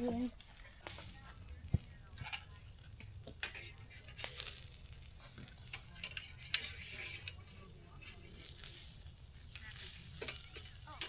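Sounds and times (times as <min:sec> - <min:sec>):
campfire crackling: 0:00.0 - 0:11.0
sharp pops of fire: 0:00.4 - 0:11.0.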